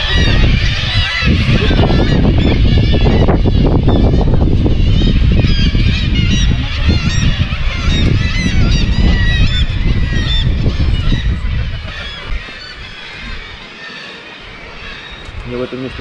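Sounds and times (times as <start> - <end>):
heavy low rumble: 0.0 - 13.6
gulls calling: 0.0 - 16.0.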